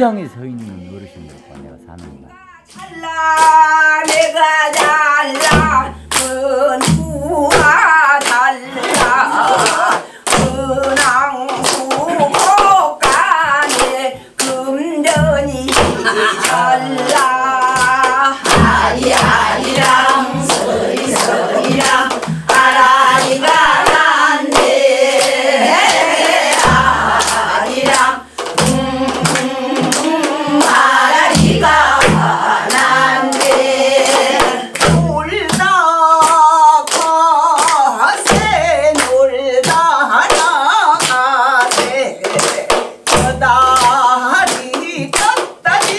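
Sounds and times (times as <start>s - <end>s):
hands clapping to beat: 2.0s - 45.9s
women singing folk song: 2.5s - 45.9s.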